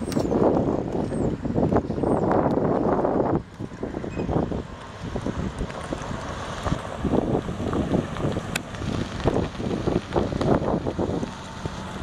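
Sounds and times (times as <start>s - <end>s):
truck engine running: 0.0s - 12.0s
wind buffeting microphone: 0.0s - 12.0s.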